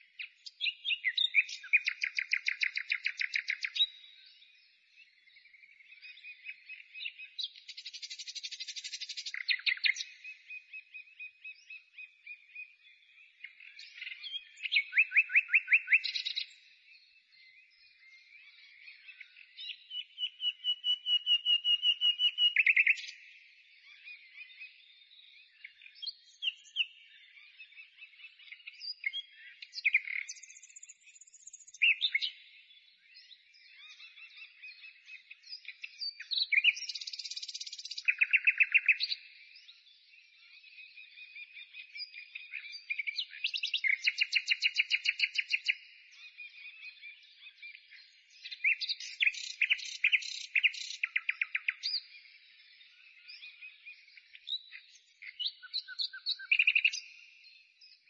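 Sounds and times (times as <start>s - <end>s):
songbird singing trills and chirps: 0.0s - 58.0s.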